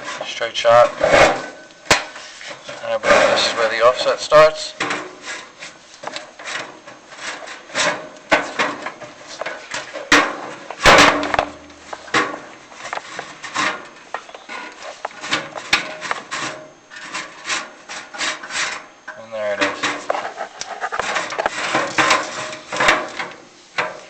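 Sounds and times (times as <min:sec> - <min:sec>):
rods scraping inside metal flue: 0:00.0 - 0:24.0.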